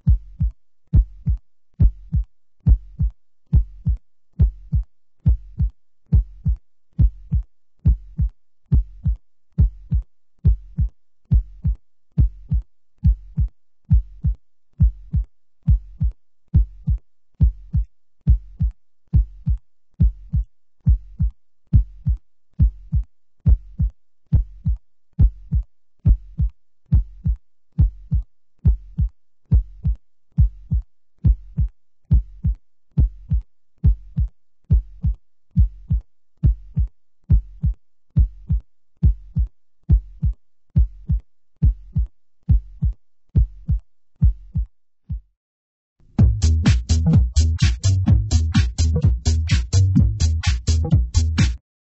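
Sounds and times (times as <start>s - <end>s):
heartbeat thumps: 0.0s - 45.4s, 46.2s - 51.6s.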